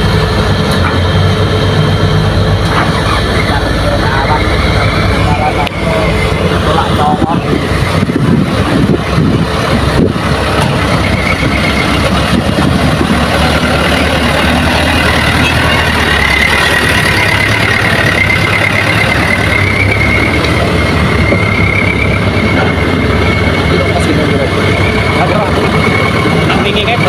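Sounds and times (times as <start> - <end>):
heavy diesel engines running: 0.0 - 27.0
high wavering whine: 0.0 - 27.0.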